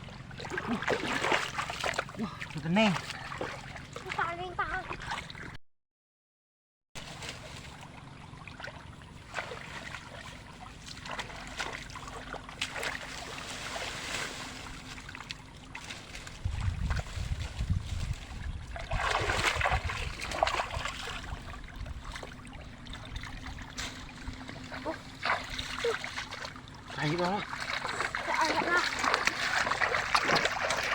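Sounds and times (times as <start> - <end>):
shallow water splashing: 0.0 - 5.5, 7.0 - 30.9.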